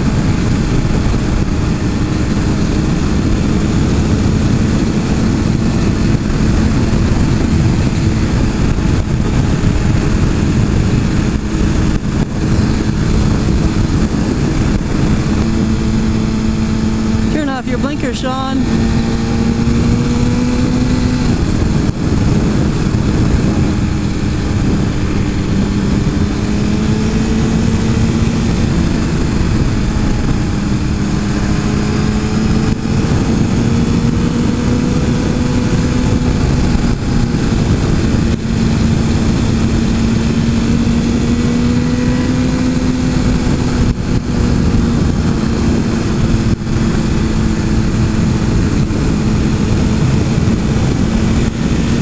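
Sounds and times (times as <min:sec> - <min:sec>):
motorcycle engine cruising: 0:00.0 - 0:52.0
wind rush on microphone: 0:00.0 - 0:52.0.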